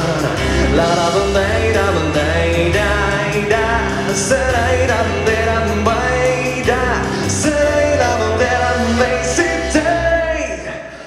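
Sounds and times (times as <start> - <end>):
jazz band playing: 0.0 - 10.5
person singing wordless melody: 0.0 - 11.0.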